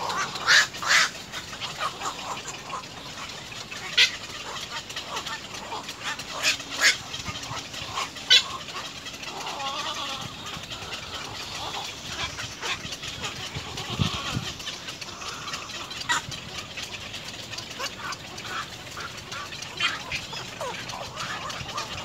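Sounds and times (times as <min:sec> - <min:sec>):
poultry calling: 0:00.0 - 0:22.0.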